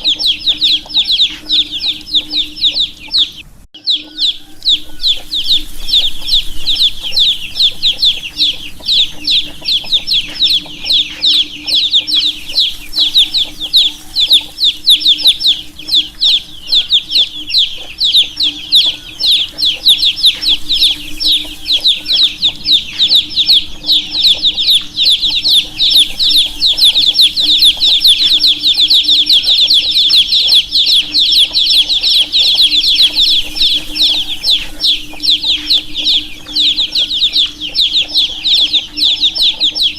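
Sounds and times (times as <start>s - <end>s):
low steady hum: 0.0s - 39.6s
baby chicks peeping: 0.0s - 39.9s.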